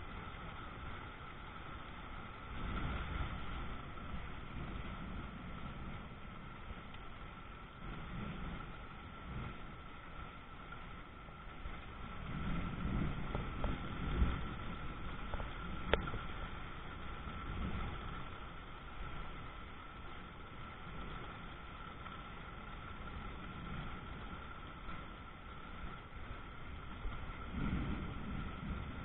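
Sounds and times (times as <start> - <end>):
faint steady tone: 0.0 - 29.0
heavy rain falling: 0.0 - 29.0.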